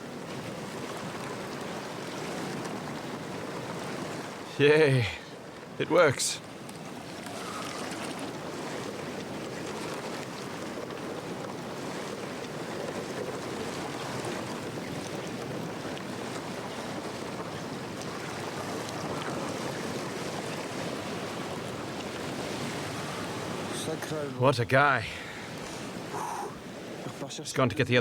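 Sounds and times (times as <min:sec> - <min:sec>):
kayak sloshing through sea ice: 0:00.0 - 0:27.4.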